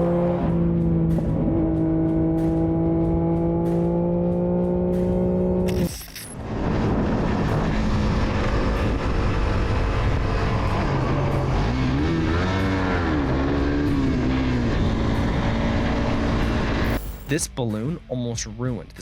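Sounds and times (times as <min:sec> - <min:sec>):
motorcycle engine: 0:00.0 - 0:17.2
wind and road noise: 0:00.0 - 0:17.4.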